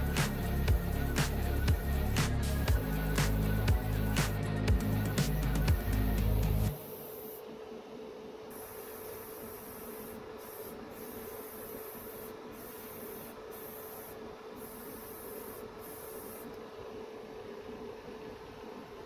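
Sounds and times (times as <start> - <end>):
airbrush air hiss: 0.0 - 7.5, 8.5 - 16.6
steady mechanical hum: 0.0 - 19.0.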